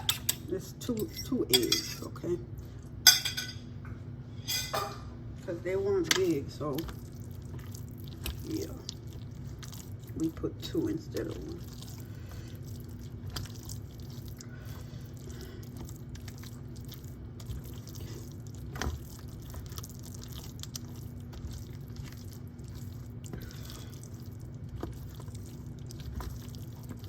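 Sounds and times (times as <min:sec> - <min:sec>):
wet mixture squishing in a bowl: 0:00.0 - 0:03.5, 0:05.2 - 0:27.0.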